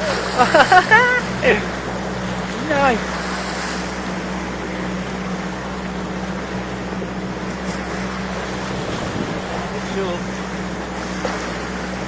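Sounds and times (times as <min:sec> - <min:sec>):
boat engine humming: 0:00.0 - 0:12.0
water and wind hiss: 0:00.0 - 0:12.0.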